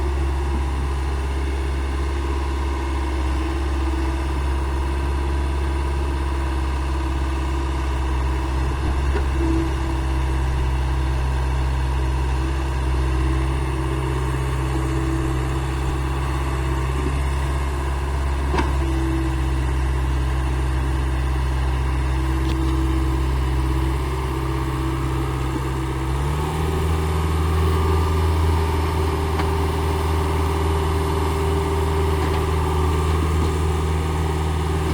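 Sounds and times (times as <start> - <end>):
construction machine engine running: 0.0 - 34.9.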